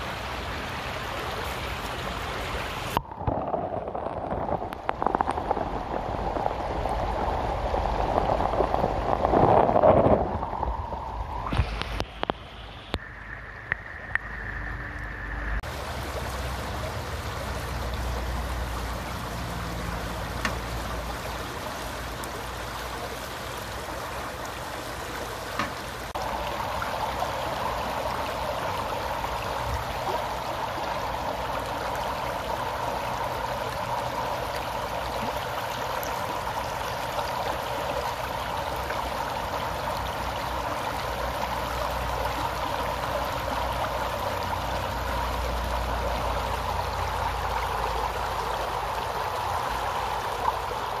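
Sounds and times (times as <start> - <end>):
stream flowing over stones: 0.0 - 51.0.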